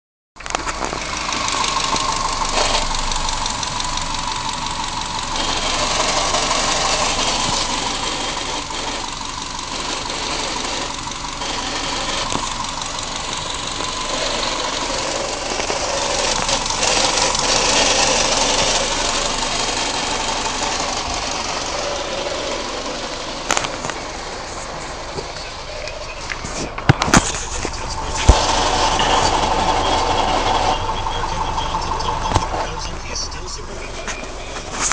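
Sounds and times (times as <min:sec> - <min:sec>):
engine running: 0:00.4 - 0:34.9.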